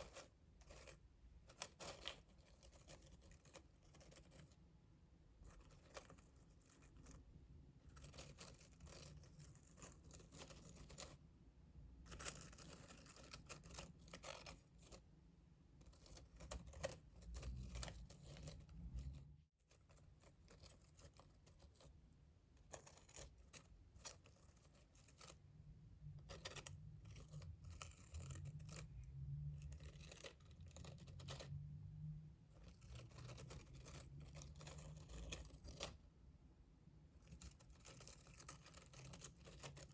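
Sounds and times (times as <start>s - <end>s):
soft scratching and crinkling: 0.0s - 11.4s, 12.0s - 36.2s, 37.0s - 39.9s.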